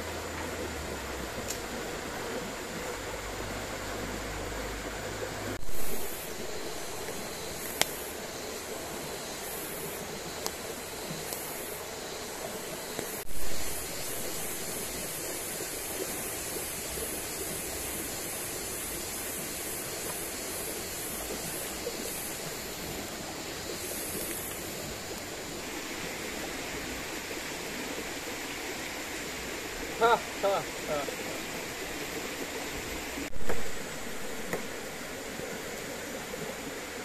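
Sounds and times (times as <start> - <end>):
stream flowing over rocks: 0.0 - 37.0.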